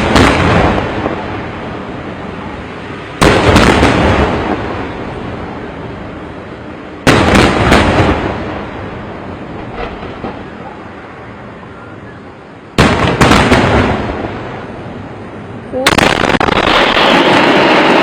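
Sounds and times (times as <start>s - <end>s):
fireworks booming: 0.0s - 18.0s
long rolling rumble: 0.0s - 18.0s.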